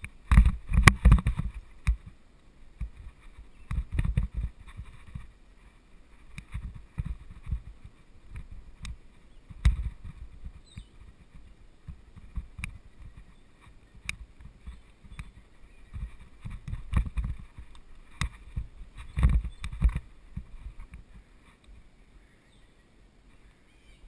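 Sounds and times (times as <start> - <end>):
sharp clacks over bumps: 0.0 - 2.2, 2.8 - 21.8.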